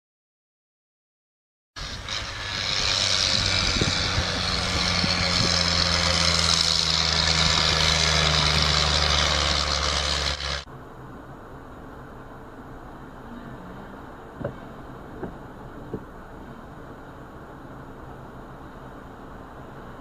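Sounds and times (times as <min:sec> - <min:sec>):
low engine hum: 0:01.8 - 0:20.0
road and wind noise: 0:01.8 - 0:20.0.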